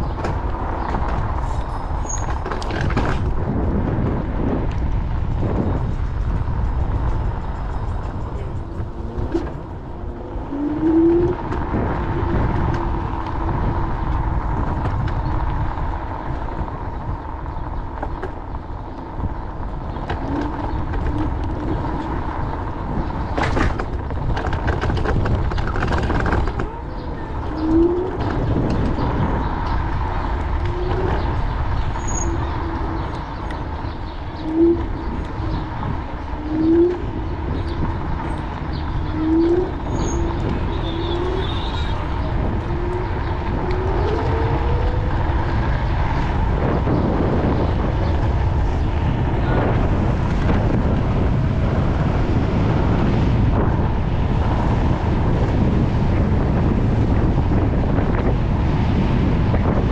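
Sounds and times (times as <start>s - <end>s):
low rushing noise: 2.8s - 59.9s.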